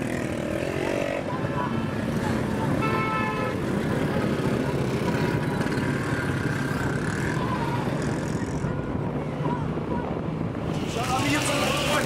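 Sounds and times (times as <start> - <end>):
nearby traffic: 0.0 - 12.0
road and wind noise: 0.0 - 12.0.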